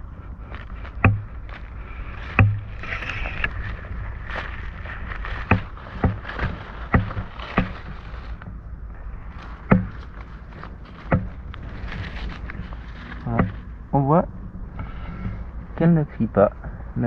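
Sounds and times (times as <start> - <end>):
sharp thumps: 0.0 - 15.6
low rumble of handling noise: 0.0 - 17.0
rustling through grass and leaves: 0.0 - 17.0.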